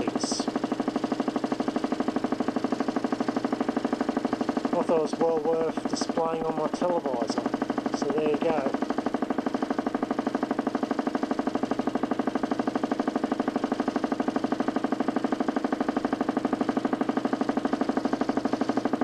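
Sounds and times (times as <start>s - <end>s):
motor spinning disc pulsing: 0.0s - 19.0s.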